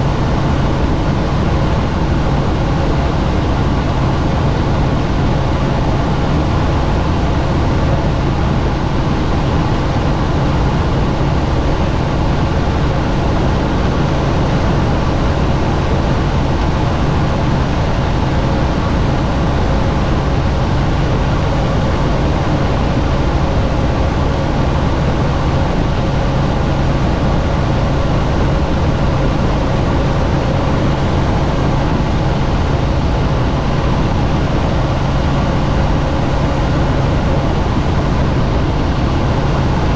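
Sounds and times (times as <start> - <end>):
helicopter rotor and engine: 0.0 - 39.9
rushing wind: 0.0 - 39.9.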